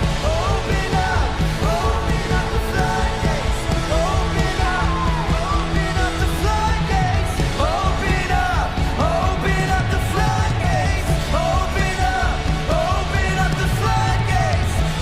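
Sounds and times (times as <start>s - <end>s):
voices singing wordless lines: 0.0s - 15.0s
worship band playing: 0.0s - 15.0s.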